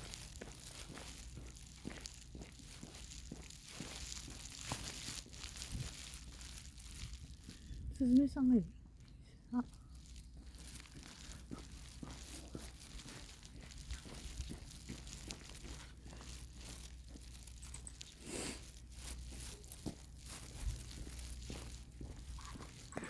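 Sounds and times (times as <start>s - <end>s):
footsteps crunching and rustling: 0.0s - 23.0s
steady low rumble: 0.0s - 23.0s.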